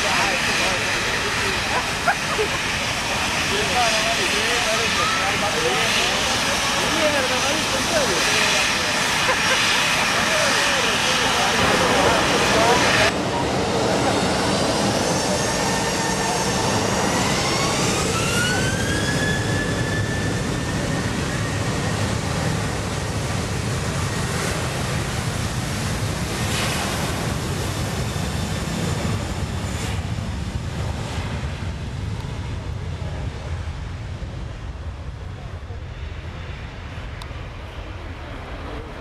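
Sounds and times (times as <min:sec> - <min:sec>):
jet engines spooling up: 0:00.0 - 0:34.3
jet noise: 0:00.0 - 0:39.0.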